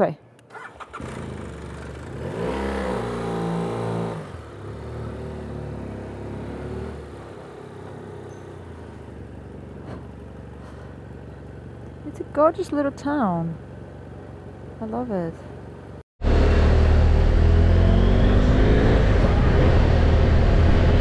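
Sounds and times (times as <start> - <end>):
motorcycle engine revving: 0.4 - 21.0.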